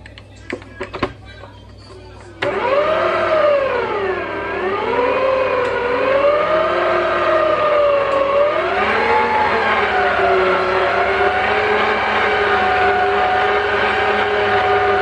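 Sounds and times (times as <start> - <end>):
stand mixer motor whine: 2.4 - 15.0.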